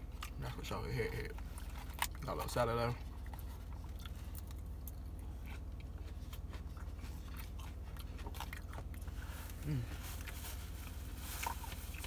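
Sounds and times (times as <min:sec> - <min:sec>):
salad being chewed and crunched: 0:00.0 - 0:12.0
steady low hum: 0:00.0 - 0:12.0.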